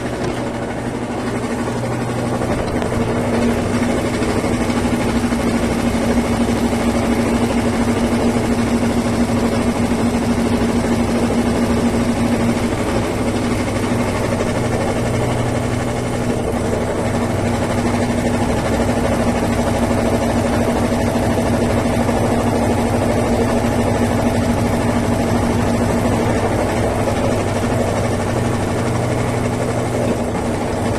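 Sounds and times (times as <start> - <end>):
washing machine spinning: 0.0 - 30.9.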